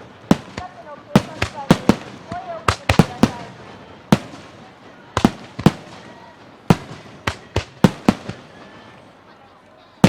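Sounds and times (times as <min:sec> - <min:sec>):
firework shells bursting: 0:00.0 - 0:08.6.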